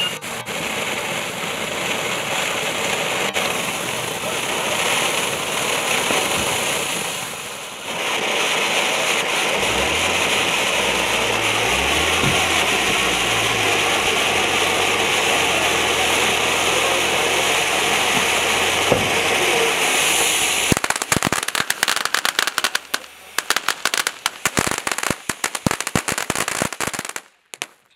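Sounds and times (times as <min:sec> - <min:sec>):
firework fountain hissing: 0:00.0 - 0:27.9
rapid crackling pops: 0:00.2 - 0:27.9.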